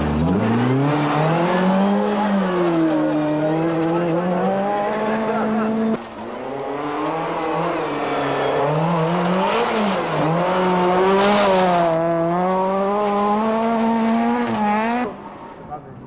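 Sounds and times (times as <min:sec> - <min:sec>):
rally car engine at high revs: 0:00.0 - 0:15.7.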